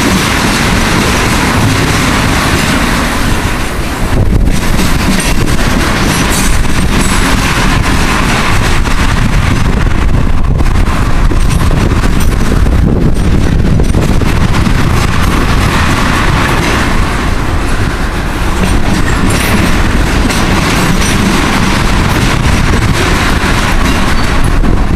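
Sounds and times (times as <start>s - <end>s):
train wheels clattering over rail joints: 0.0s - 24.9s.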